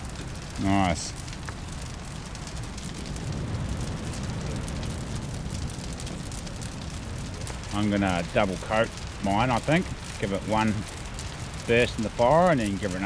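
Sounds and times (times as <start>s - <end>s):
campfire flames rushing: 0.0s - 13.0s
wood crackling and popping: 0.0s - 13.0s.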